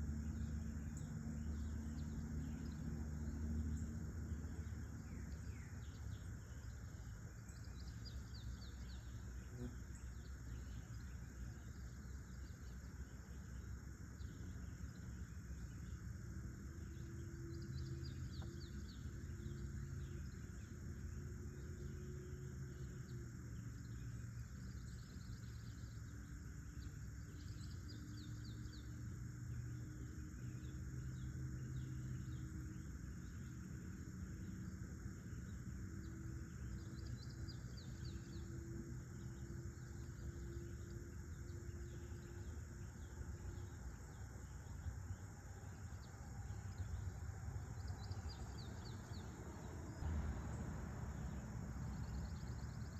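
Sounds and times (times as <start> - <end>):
insects chirring: 0.0 - 52.9
low steady hum: 0.0 - 52.9.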